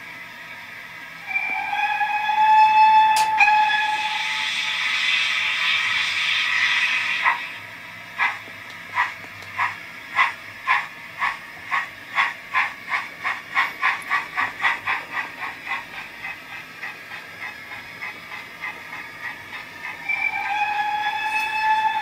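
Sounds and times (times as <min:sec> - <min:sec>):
model steam locomotive chuffing: 0:01.3 - 0:22.0.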